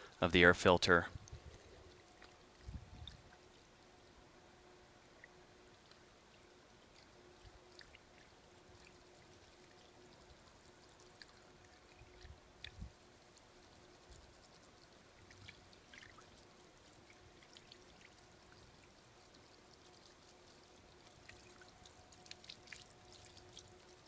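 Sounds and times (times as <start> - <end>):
water trickling from hose: 0.0 - 24.0.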